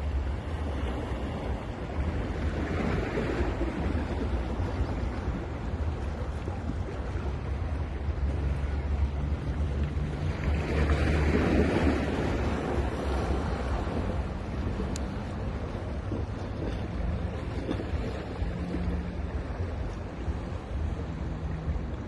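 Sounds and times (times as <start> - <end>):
sea waves breaking on beach: 0.0 - 22.0
wind rumble on microphone: 0.0 - 22.0.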